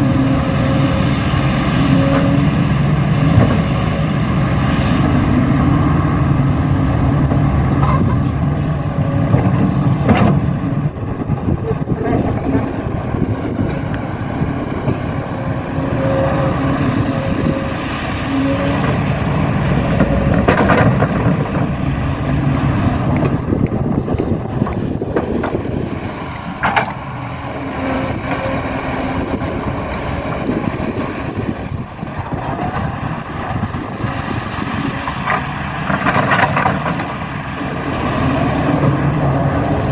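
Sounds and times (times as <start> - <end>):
excavator engine running under load: 0.0 - 39.9.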